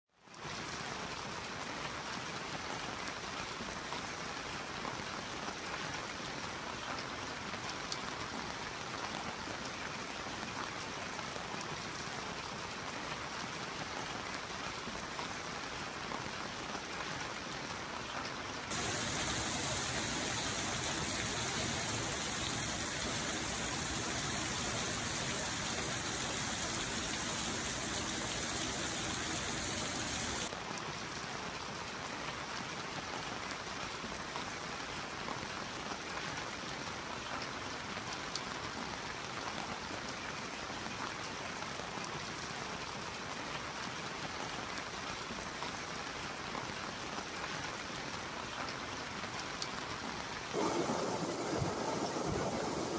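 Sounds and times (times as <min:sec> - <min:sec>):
rain falling on pavement: 0:00.2 - 0:52.9.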